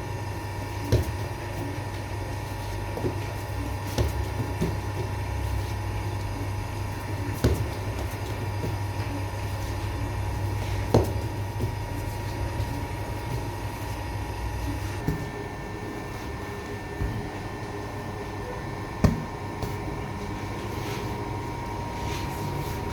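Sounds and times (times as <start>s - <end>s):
low mechanical hum: 0.0s - 22.9s.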